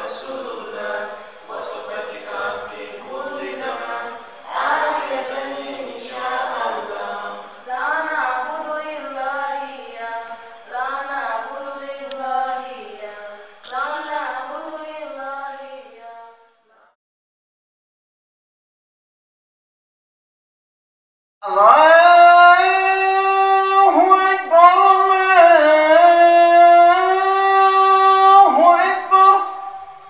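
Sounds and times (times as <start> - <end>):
voices chanting in unison: 0.0 - 17.0, 21.4 - 30.0.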